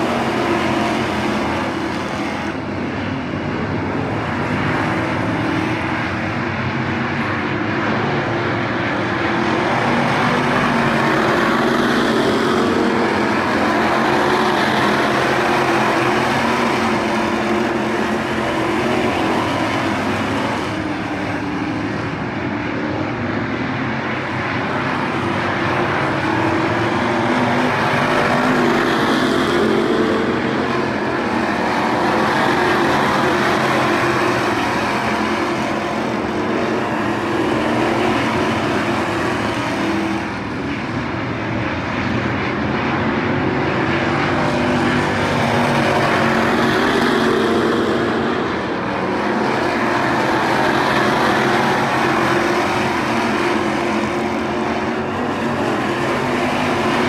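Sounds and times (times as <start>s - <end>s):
race car engines droning: 0.0s - 57.0s.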